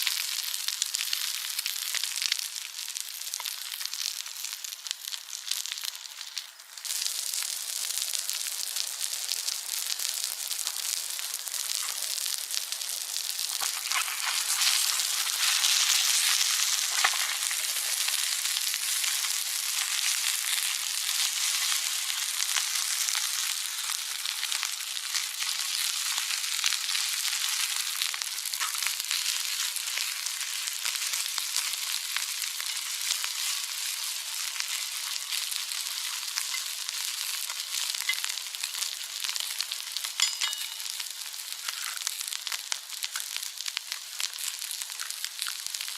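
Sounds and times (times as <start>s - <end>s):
food sizzling in a frying pan: 0.0s - 45.9s.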